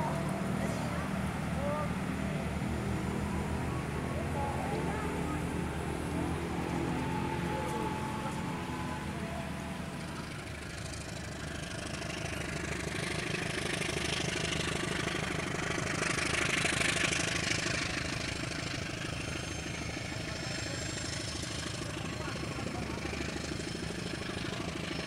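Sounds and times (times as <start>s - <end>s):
diesel locomotive engine drone: 0.0s - 25.0s
moving train rushing: 0.0s - 25.0s.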